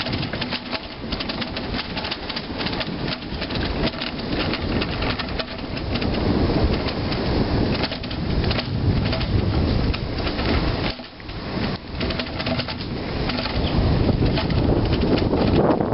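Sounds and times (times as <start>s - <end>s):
bicycle clicking over concrete: 0.0s - 15.9s.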